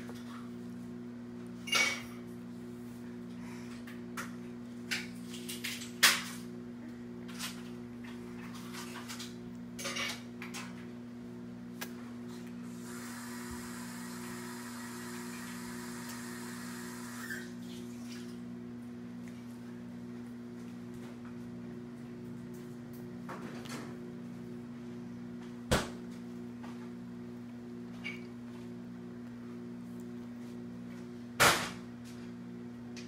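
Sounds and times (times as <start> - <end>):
constant low hum: 0.0 - 33.0.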